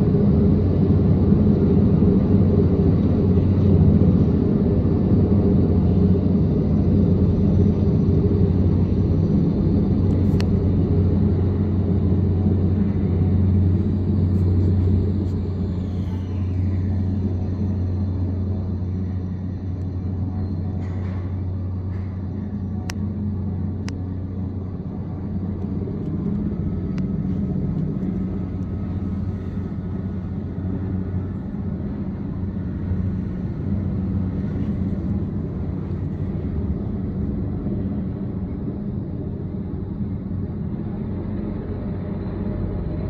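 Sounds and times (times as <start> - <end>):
helicopter rotor and engine rumble: 0.0 - 43.0.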